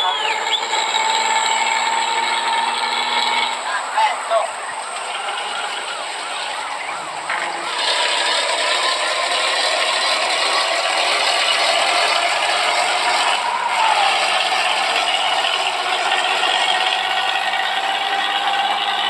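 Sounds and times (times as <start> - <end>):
truck running with rattle and whine: 0.0 - 19.0.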